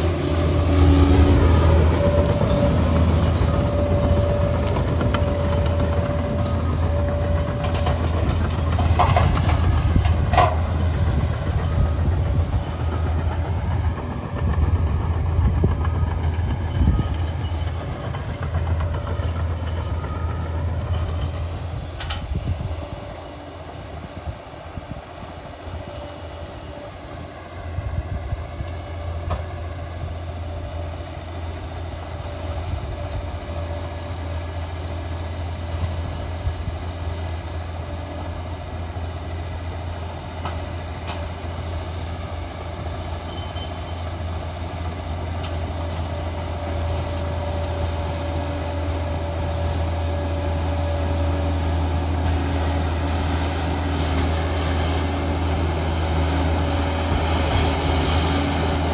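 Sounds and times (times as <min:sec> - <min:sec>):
steel tracks clattering and squealing: 0:00.0 - 0:27.7, 0:28.5 - 0:58.9
heavy diesel engine running: 0:00.0 - 0:58.9.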